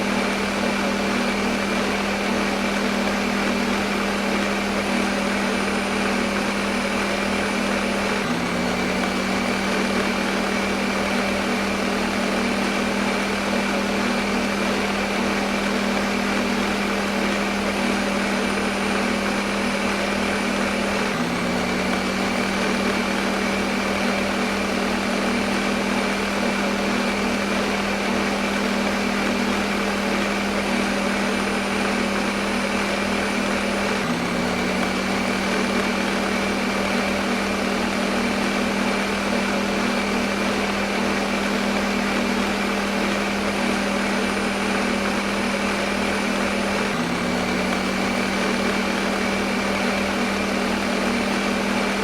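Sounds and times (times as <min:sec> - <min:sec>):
blender running: 0:00.0 - 0:52.0.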